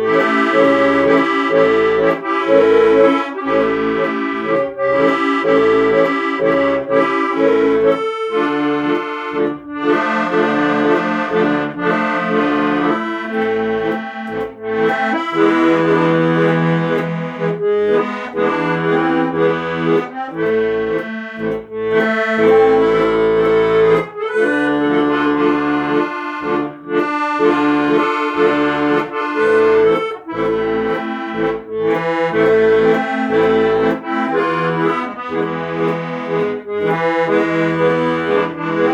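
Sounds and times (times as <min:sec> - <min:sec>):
instrumental music with reedy melody: 0:00.0 - 0:38.9.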